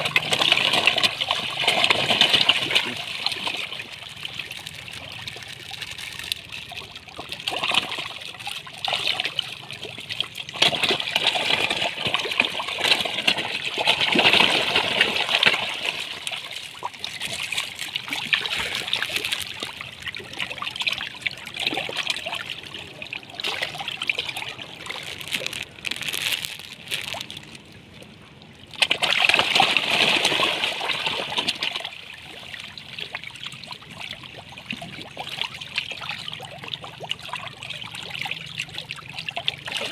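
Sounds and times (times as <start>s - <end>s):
fish splashing at water surface: 0.0s - 27.7s, 28.7s - 39.9s.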